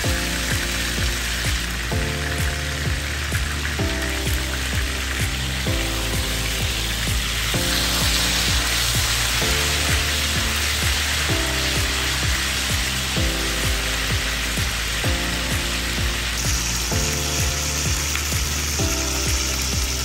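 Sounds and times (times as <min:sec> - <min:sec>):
background music with a beat: 0:00.0 - 0:20.0
steak sizzling in a pan: 0:00.0 - 0:20.0.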